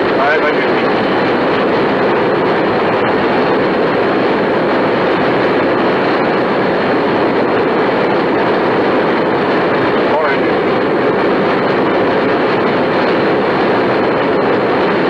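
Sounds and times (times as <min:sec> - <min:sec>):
muffled cockpit rushing noise: 0:00.0 - 0:15.0.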